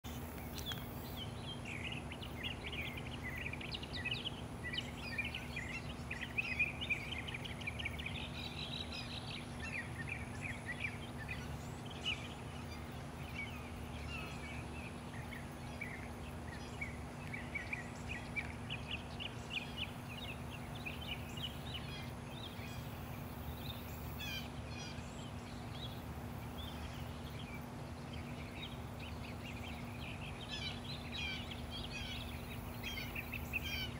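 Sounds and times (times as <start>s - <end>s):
small birds chirping: 0.0s - 33.9s
low background hum: 0.1s - 33.9s.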